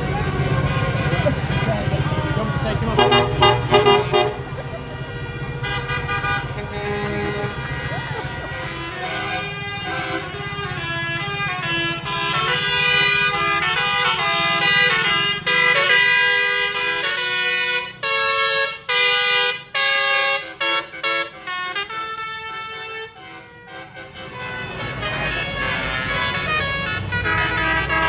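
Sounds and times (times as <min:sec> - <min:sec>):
tractor engines running: 0:00.0 - 0:28.0
tractor horns tooting: 0:00.0 - 0:28.0.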